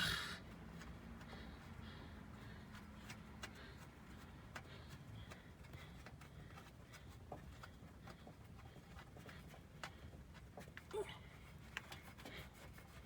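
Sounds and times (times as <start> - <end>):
faint light clicks and ticks: 0.5 - 13.0.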